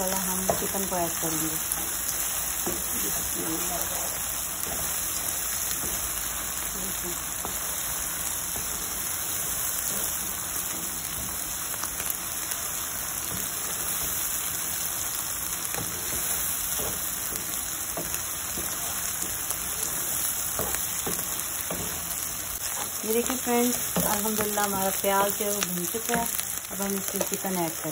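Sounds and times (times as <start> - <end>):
onions sizzling in hot oil: 0.0 - 27.9.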